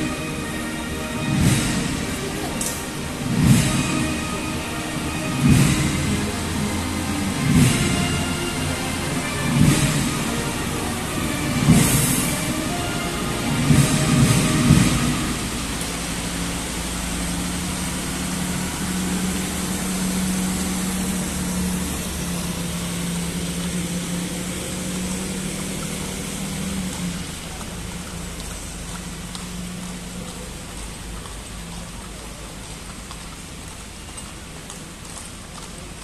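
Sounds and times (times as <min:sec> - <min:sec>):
military vehicle engine passing: 0:00.0 - 0:36.0.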